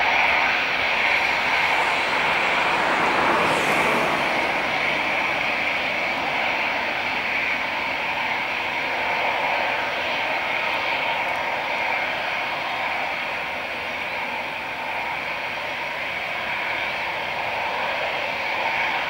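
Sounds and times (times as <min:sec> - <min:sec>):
jet engines with high whine: 0:00.0 - 0:19.0.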